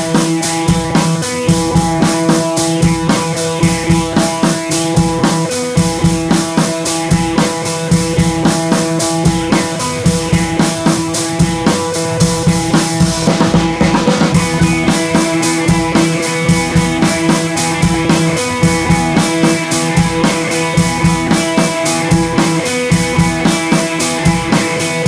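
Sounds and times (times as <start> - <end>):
background music with drum beat: 0.0 - 25.0.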